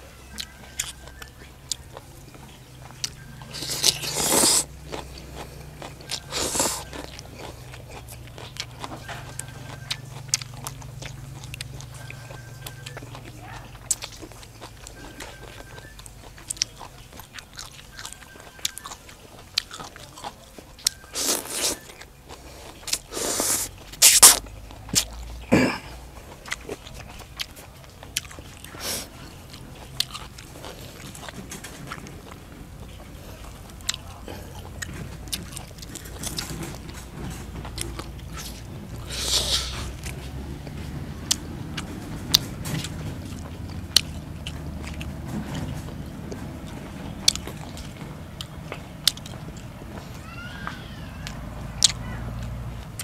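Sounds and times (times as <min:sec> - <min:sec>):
crunching raw vegetables: 0:00.0 - 0:53.0.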